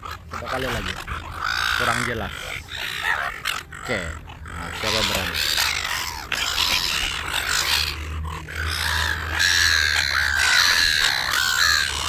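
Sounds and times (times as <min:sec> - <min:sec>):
wild birds squawking: 0:00.0 - 0:12.0.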